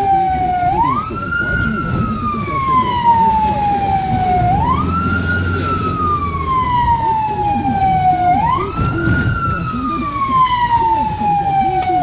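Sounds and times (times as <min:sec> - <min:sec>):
ambulance siren wailing: 0:00.0 - 0:12.0
engine and road rumble: 0:00.0 - 0:12.0.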